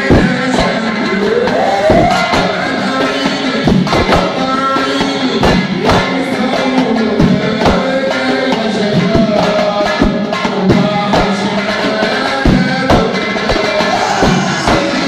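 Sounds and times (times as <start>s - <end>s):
frame drums beating: 0.0s - 15.0s
male voices chanting: 0.0s - 15.0s.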